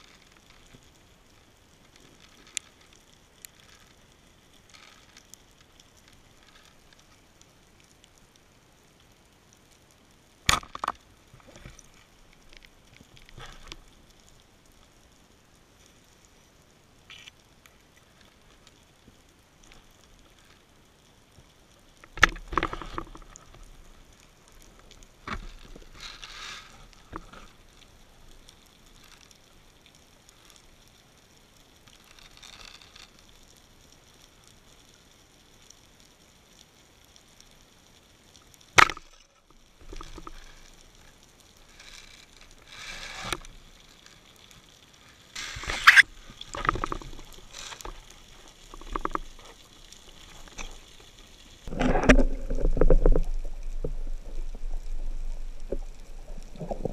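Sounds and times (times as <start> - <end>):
underwater water noise: 0.0 - 56.9.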